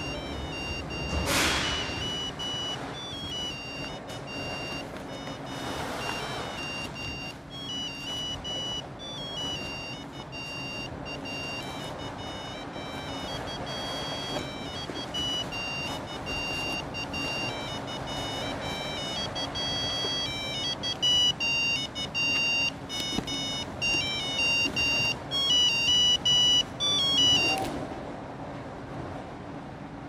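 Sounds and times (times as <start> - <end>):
high electronic beeping melody: 0.0 - 27.6
metro train car rumble: 0.0 - 30.0.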